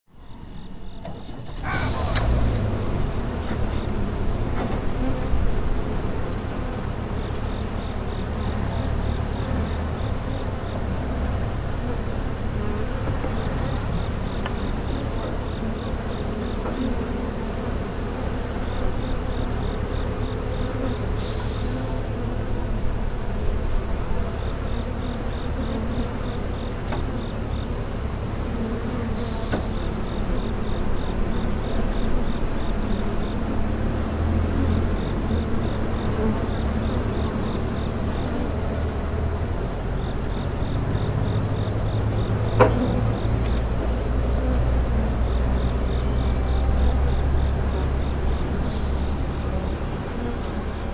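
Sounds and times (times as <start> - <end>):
honeybees buzzing: 0.3 - 50.9.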